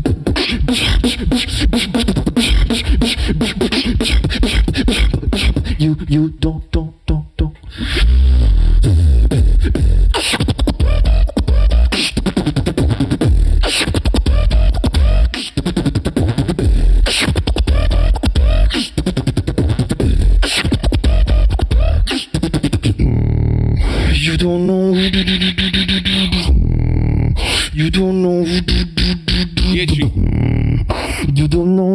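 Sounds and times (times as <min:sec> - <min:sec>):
person beatboxing: 0:00.0 - 0:31.9.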